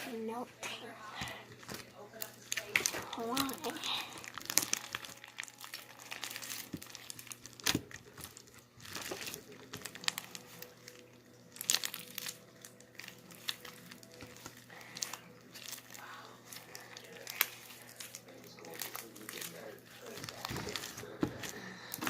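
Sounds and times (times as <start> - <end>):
slime squished by hand: 1.2 - 22.0.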